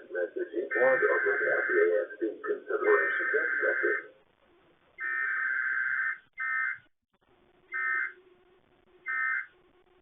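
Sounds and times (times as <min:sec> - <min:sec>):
faint low hum: 0:00.0 - 0:05.4, 0:07.2 - 0:10.0.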